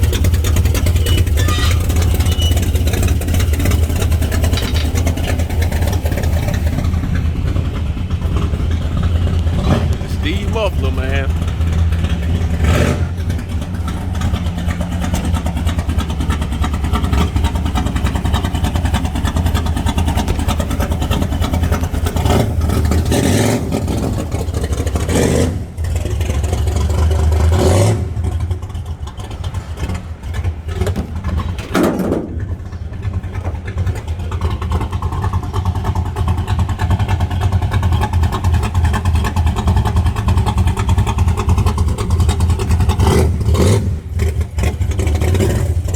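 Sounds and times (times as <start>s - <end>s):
car engine rumbling and revving: 0.0s - 45.9s.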